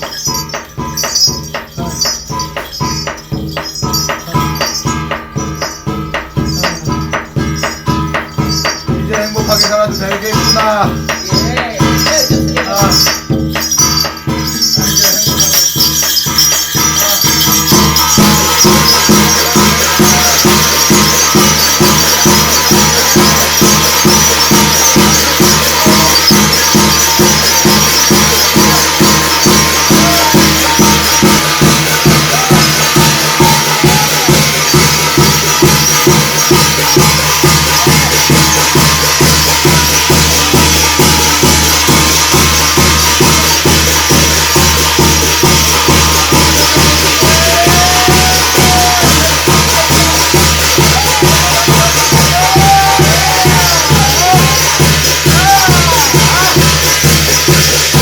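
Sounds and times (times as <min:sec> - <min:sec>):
cymbals shimmering: 0:00.0 - 0:58.0
fast drum beat: 0:00.0 - 0:58.0
jingling bells: 0:00.0 - 0:58.0.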